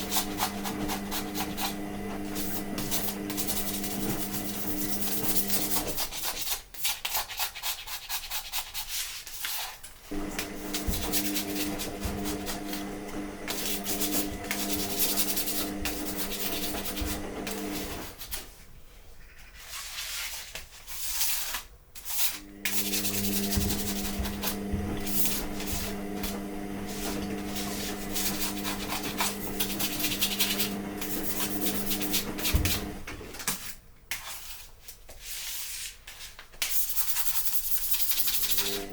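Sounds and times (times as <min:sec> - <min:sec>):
scrubbing steel sheet: 0:00.0 - 0:18.6, 0:19.3 - 0:33.0.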